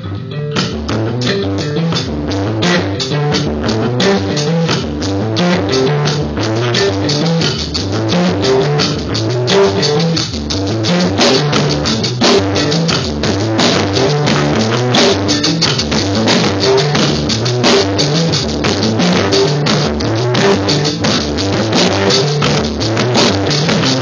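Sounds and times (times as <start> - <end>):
low guitar riff: 0.0 - 24.0
drum kit hits: 0.6 - 24.0.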